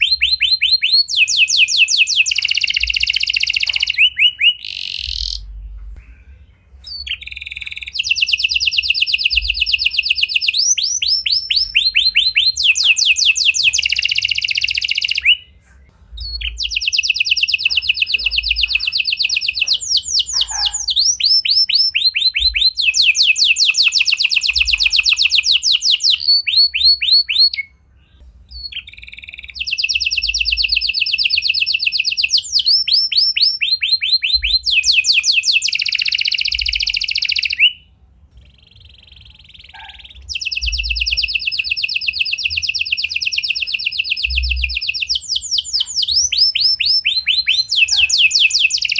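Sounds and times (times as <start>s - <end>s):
canary trilling song: 0.0s - 48.9s.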